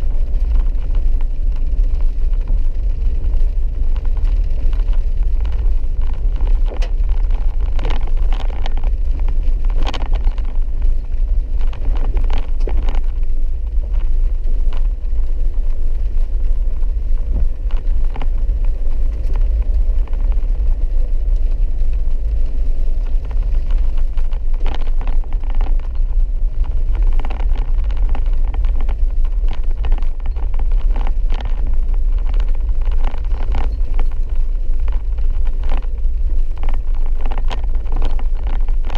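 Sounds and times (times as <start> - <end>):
vehicle engine and tyres rumbling: 0.0 - 38.9.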